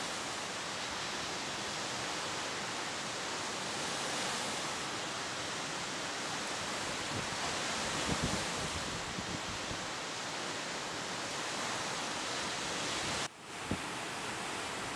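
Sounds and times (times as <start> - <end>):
waves breaking on beach: 0.0 - 14.9.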